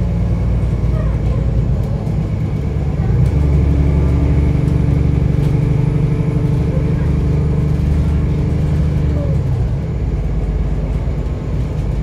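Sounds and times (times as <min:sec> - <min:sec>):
bus engine low drone: 0:00.0 - 0:12.0.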